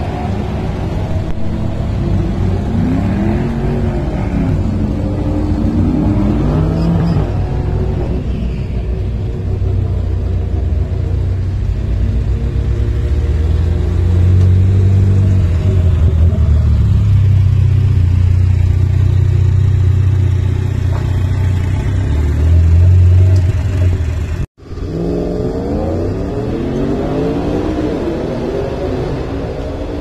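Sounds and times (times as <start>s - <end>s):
engine revving: 0.0s - 8.2s, 11.6s - 30.0s.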